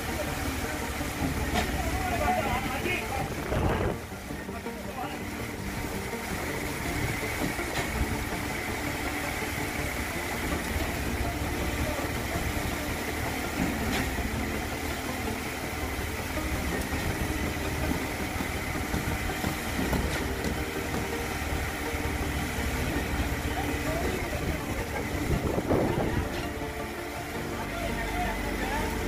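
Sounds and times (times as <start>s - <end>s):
concrete pump engine running: 0.0s - 29.0s.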